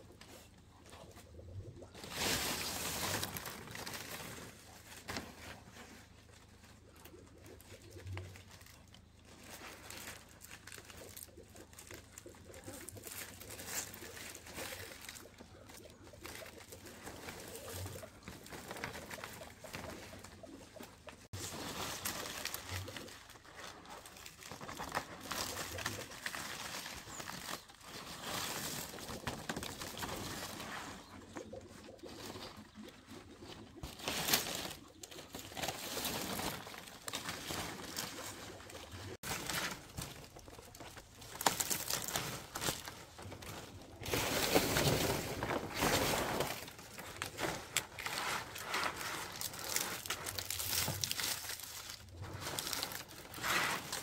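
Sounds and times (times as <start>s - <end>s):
dry leaves rustling: 0.0s - 54.0s.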